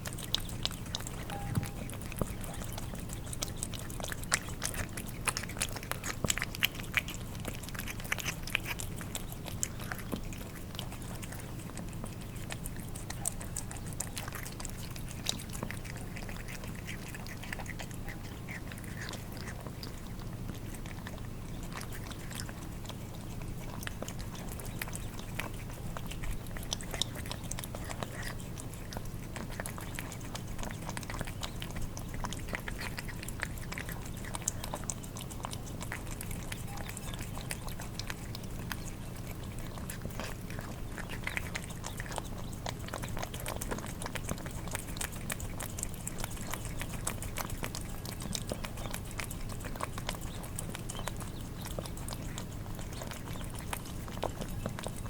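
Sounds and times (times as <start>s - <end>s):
cats eating wet food: 0.0s - 55.0s
steady low hum: 0.0s - 55.0s.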